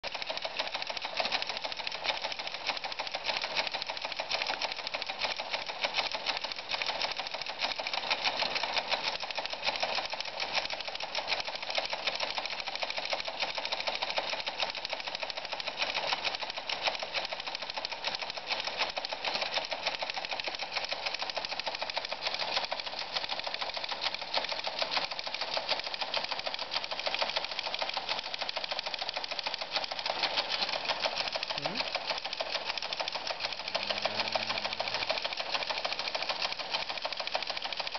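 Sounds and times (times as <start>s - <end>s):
teleprinter clattering: 0.1s - 37.9s.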